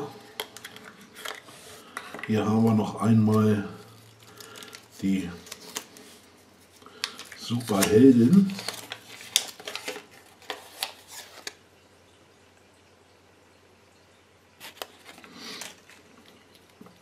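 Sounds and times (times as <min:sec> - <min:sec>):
paper crackling: 0:00.0 - 0:11.6, 0:14.6 - 0:16.8.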